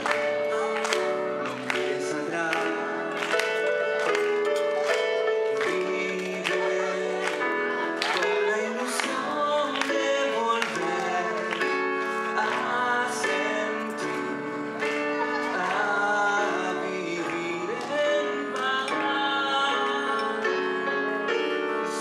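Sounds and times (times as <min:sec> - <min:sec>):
man singing into a microphone: 0:00.0 - 0:04.1, 0:05.3 - 0:22.0
electronic keyboard: 0:00.0 - 0:22.0.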